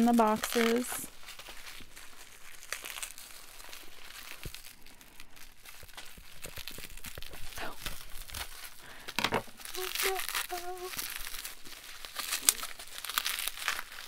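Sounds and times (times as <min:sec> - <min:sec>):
packing wrap crinkling: 0:00.0 - 0:14.0
wrap tearing: 0:00.0 - 0:14.0.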